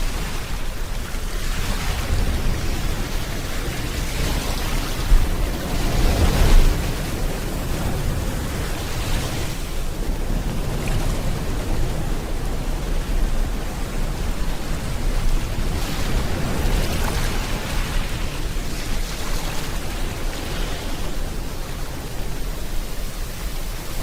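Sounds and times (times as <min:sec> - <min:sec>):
ocean waves breaking on shore: 0:00.0 - 0:24.0
steady rain: 0:00.0 - 0:24.0.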